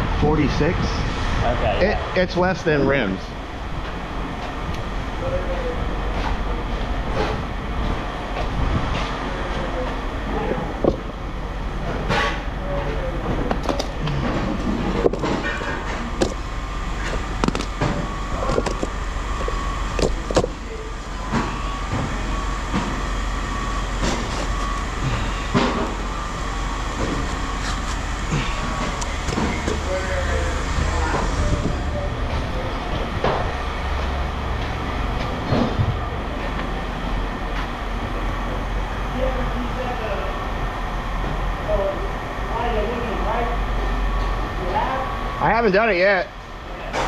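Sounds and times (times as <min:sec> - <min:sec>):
low machinery rumble: 0:00.0 - 0:47.0.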